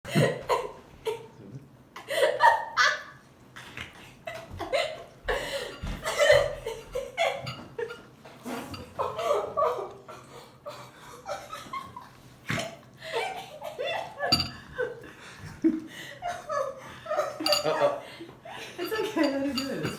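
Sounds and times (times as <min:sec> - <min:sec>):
people laughing: 0:02.0 - 0:12.2, 0:13.0 - 0:19.8.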